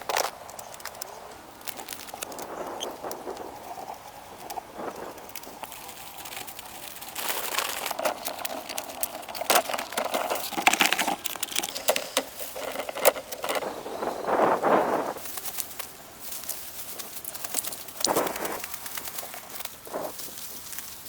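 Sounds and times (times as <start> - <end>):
dry crackling and snapping: 0.0 - 21.0.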